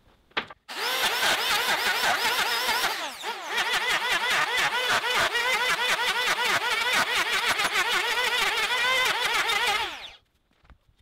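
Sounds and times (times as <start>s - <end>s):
electric planer cutting wood: 0.7s - 10.2s.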